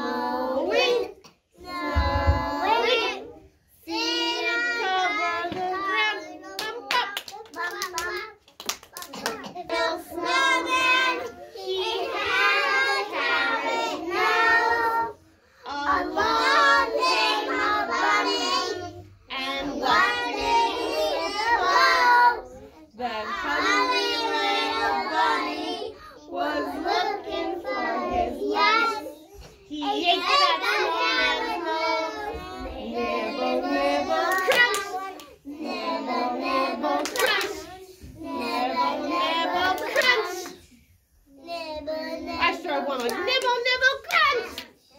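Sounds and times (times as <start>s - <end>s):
children singing in unison: 0.0s - 6.4s, 9.4s - 40.7s.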